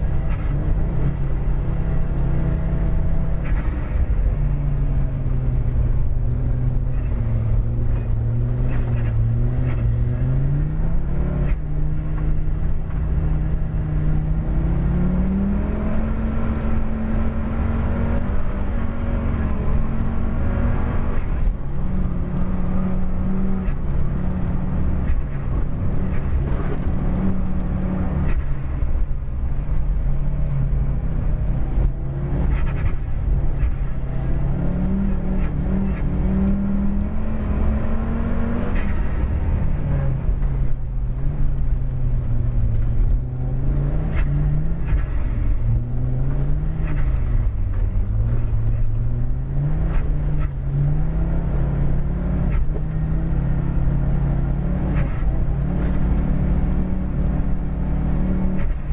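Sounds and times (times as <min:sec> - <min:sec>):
car engine revving while driving: 0:00.0 - 0:58.9
low rumble of tyres on road: 0:00.0 - 0:58.9.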